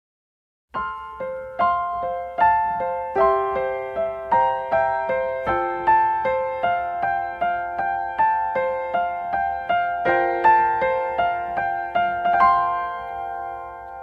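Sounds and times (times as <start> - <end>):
gentle piano melody: 0.8 - 14.0.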